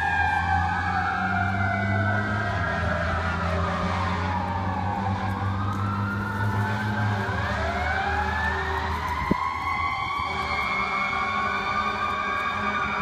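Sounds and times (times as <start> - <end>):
mechanical siren wailing: 0.0 - 13.0.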